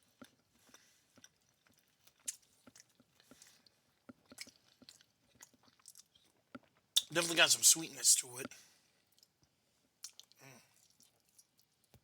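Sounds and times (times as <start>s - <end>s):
chewing crispy food: 0.0s - 12.0s.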